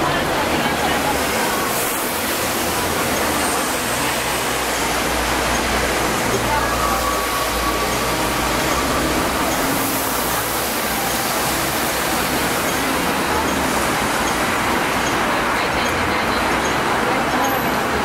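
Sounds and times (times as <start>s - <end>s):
tram rumbling and rattling: 0.0s - 18.0s.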